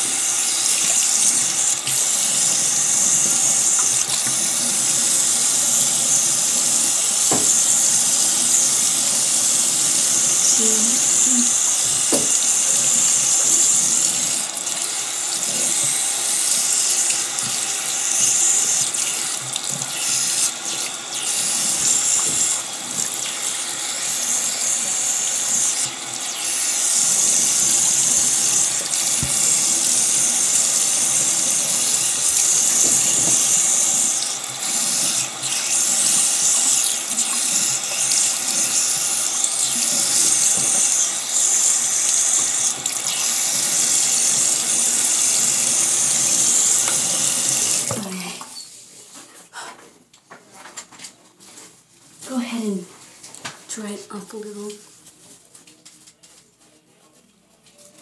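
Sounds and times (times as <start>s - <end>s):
water running: 0.0s - 48.8s.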